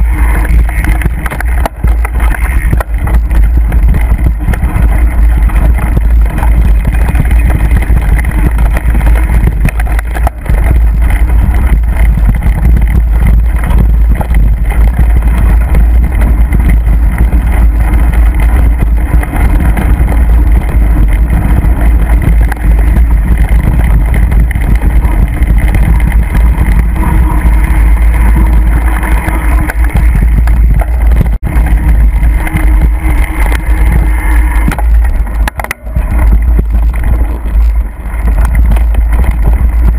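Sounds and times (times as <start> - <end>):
bike rattling over ground: 0.0 - 39.9
bike tyre noise: 0.0 - 39.9
wind rumble on microphone: 0.0 - 39.9.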